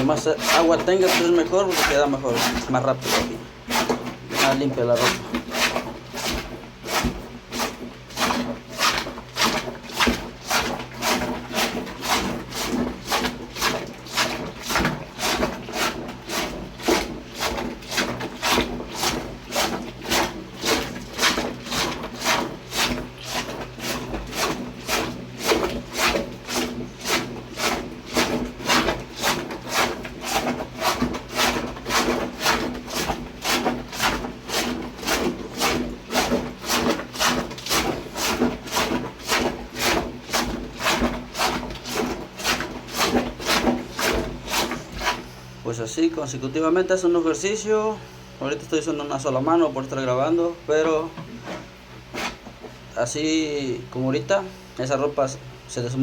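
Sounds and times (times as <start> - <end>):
plunger sloshing water in bucket: 0.0 - 54.2.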